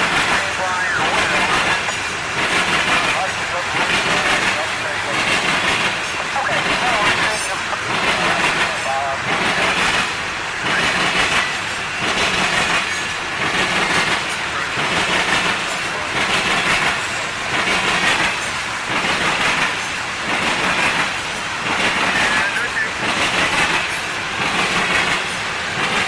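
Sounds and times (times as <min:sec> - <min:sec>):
train wheels clattering over rails: 0:00.0 - 0:26.0.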